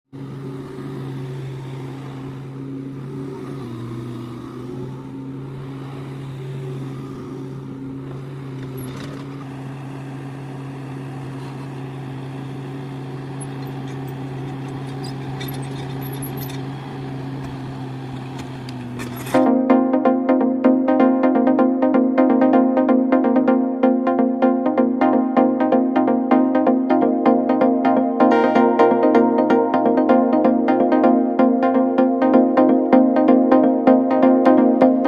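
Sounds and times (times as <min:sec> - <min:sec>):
heavy diesel engine running: 0:00.1 - 0:35.0.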